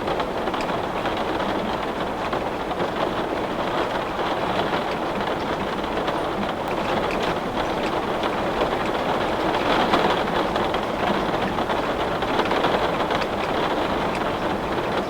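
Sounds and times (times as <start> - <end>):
heavy rain on a window: 0.0 - 15.0
raindrops ticking on glass: 0.1 - 15.0.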